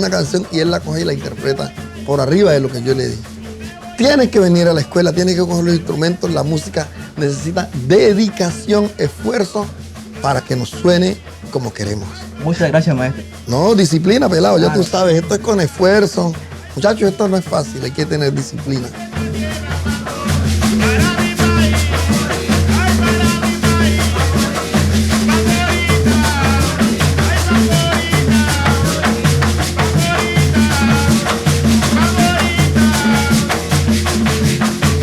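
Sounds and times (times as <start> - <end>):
fast shaker rhythm: 0.0 - 35.0.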